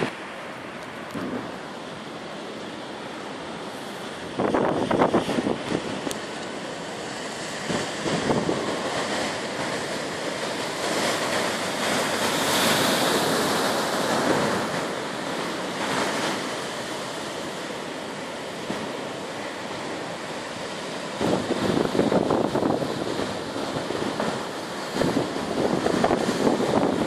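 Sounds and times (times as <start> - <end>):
storm surf breaking on seawall: 0.0 - 27.0
wind: 0.0 - 27.0.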